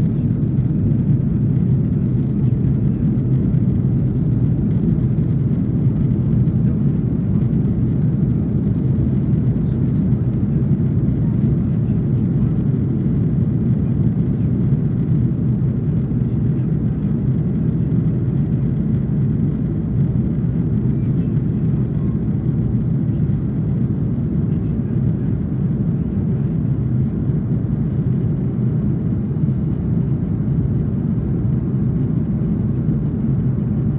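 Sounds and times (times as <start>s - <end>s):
airplane cabin drone: 0.0s - 33.9s.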